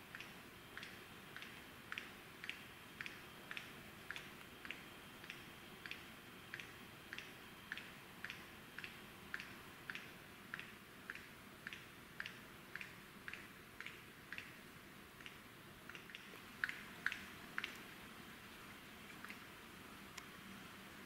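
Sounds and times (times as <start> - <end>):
lyrebird sharp clicks: 0.1 - 14.6, 15.2 - 17.9.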